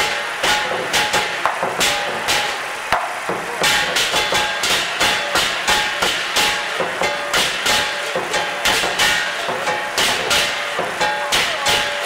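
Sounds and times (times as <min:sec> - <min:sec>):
cymbals crashing: 0:00.0 - 0:12.0
drum beating: 0:00.0 - 0:12.0
gong strokes: 0:00.0 - 0:12.0.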